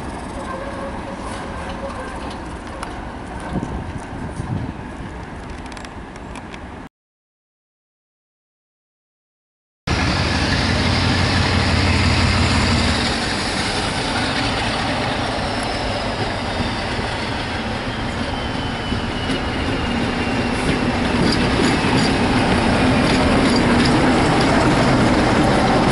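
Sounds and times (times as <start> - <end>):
train wheels clicking on rail joints: 0.0 - 6.7, 10.1 - 25.9
diesel locomotive engine: 0.0 - 6.8, 9.9 - 25.9.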